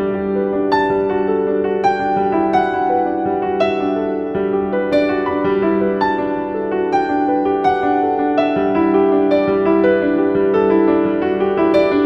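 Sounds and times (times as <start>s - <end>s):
slow soft piano melody: 0.0s - 12.0s.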